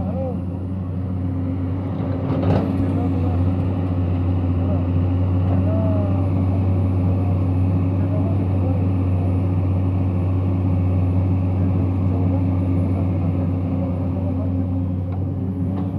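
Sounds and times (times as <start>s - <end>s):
excavator diesel engine droning: 0.0s - 15.9s.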